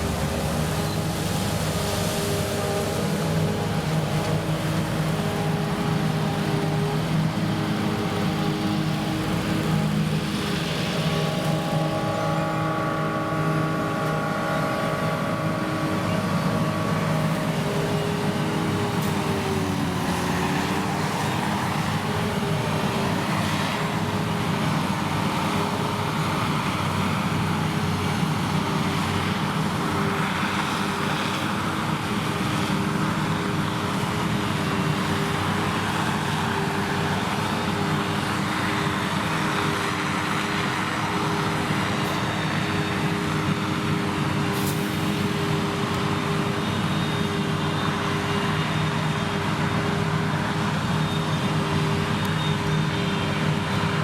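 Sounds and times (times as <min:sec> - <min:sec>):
harvester engine droning: 0:00.0 - 0:54.0.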